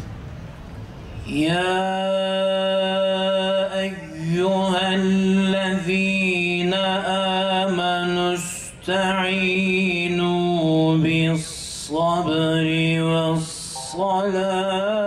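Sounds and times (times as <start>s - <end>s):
man chanting into a microphone: 1.2s - 15.0s.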